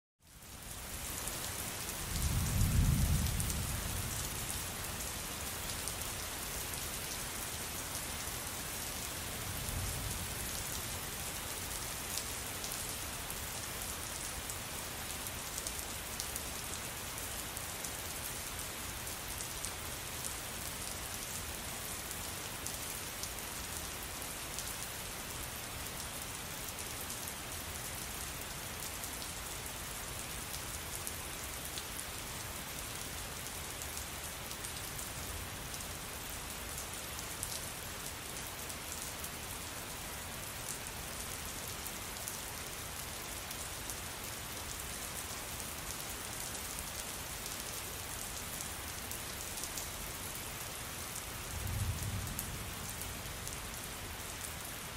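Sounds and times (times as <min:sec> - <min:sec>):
heavy rain falling: 0:00.2 - 0:54.9.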